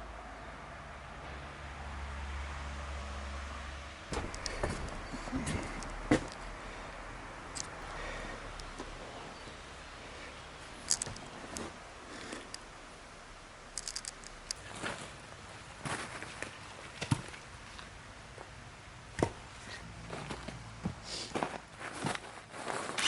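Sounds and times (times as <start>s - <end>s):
faint steady hiss: 0.0s - 22.9s.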